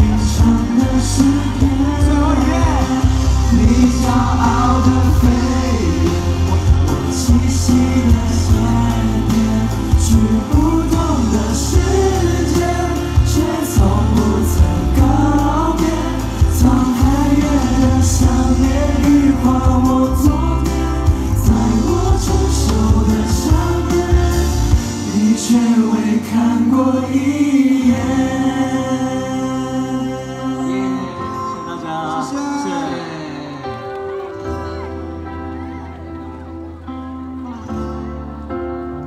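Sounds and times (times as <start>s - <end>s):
male vocal group singing: 0.0s - 34.0s
amplified band with heavy bass: 0.0s - 39.0s.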